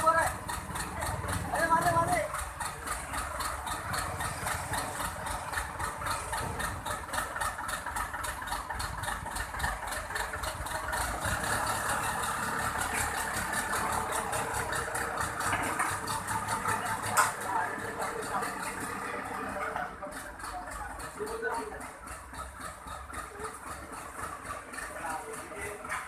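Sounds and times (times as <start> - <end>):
forklift engine running: 0.0 - 26.0.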